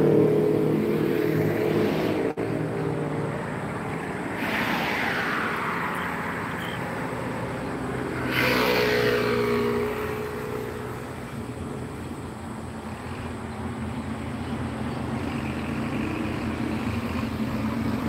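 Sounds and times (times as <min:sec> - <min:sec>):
steady engine drone: 0:00.0 - 0:18.0
vehicles passing: 0:00.0 - 0:18.0.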